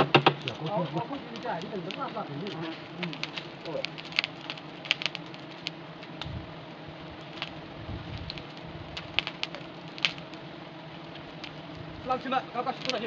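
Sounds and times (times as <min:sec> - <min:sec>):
sharp clicks and crackles: 0:00.0 - 0:06.4, 0:07.0 - 0:13.0
honeybees humming: 0:00.0 - 0:13.0.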